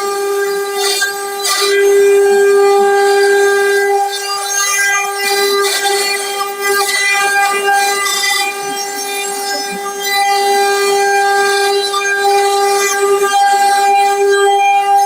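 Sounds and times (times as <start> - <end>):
router cutting wood: 0.0 - 15.0
router spindle high whine: 0.0 - 15.0.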